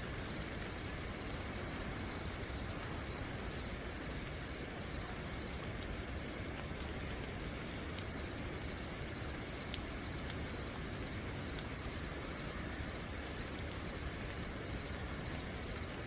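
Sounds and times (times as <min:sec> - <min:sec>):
crickets chirping: 0:00.0 - 0:16.0
steady rain: 0:00.0 - 0:16.0.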